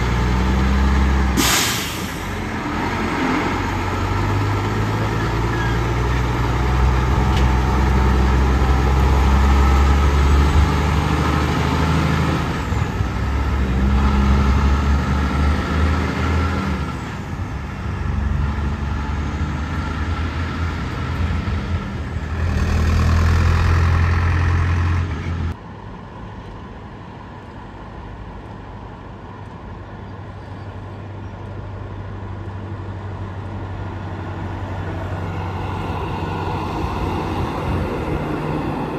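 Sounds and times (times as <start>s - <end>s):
traffic noise: 0.0s - 38.9s
truck engines humming: 0.0s - 38.9s.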